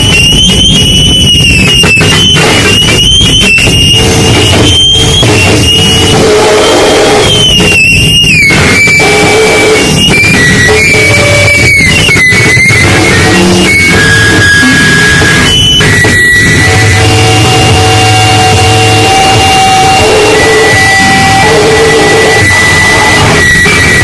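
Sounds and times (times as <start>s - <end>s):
harsh distorted noise music: 0.0s - 24.0s
thin high whine: 0.0s - 24.0s.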